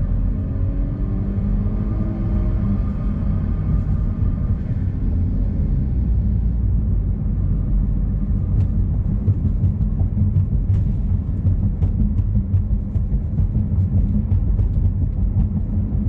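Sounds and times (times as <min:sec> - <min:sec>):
car exhaust drone: 0:00.0 - 0:16.0.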